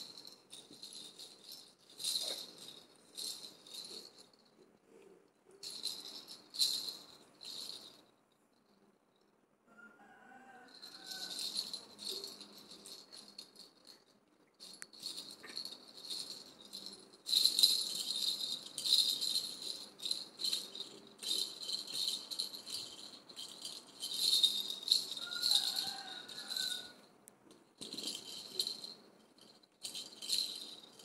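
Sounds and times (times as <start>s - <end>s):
plastic rattle toy shaking: 0.0s - 4.6s, 5.6s - 8.7s, 10.7s - 31.0s.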